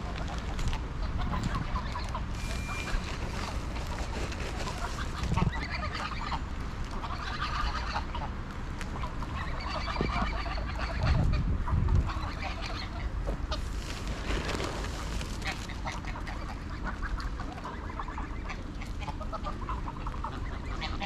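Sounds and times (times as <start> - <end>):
geese honking: 1.0 - 8.4, 9.0 - 13.7, 14.5 - 21.0.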